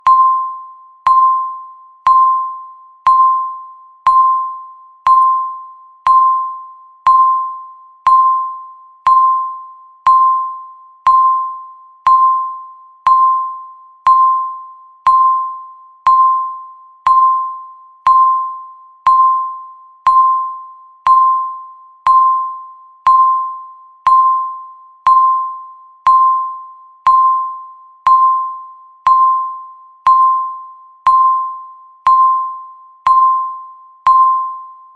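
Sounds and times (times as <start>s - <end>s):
countdown timer beep: 0.0s - 34.9s.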